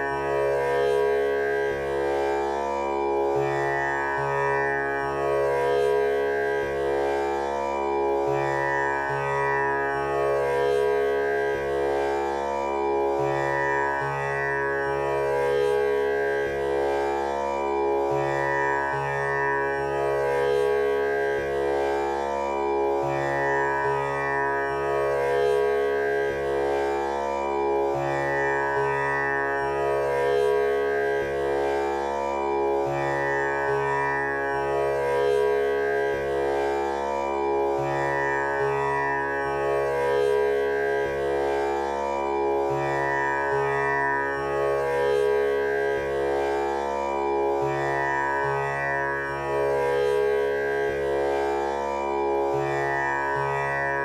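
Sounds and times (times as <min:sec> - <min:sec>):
tanpura drone: 0:00.0 - 0:54.0.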